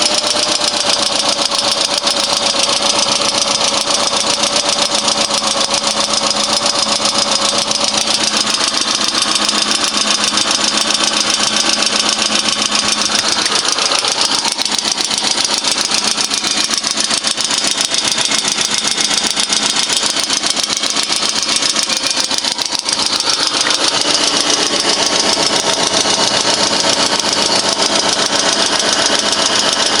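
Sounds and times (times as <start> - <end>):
engine idling: 0.0 - 30.0
valve train ticking clatter: 0.0 - 30.0.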